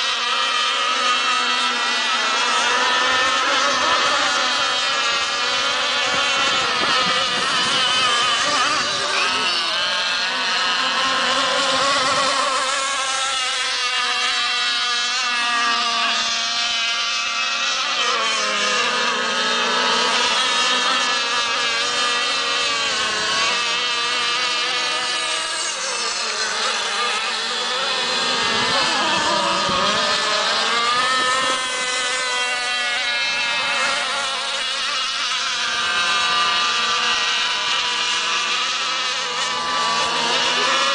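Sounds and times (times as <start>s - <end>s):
model boat engines whining: 0.0s - 40.9s.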